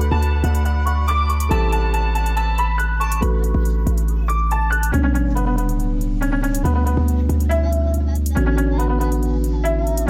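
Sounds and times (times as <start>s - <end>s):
calm electronic music: 0.0s - 10.0s.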